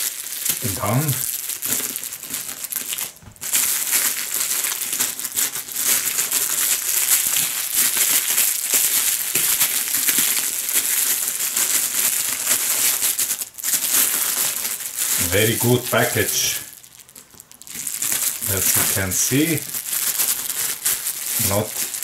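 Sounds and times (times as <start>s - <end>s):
plastic film crinkling: 0.0s - 22.0s.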